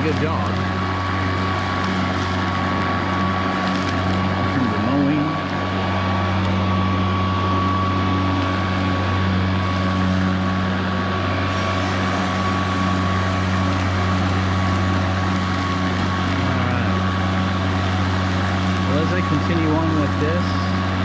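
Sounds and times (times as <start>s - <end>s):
lawn mower humming and whining: 0.0s - 21.0s.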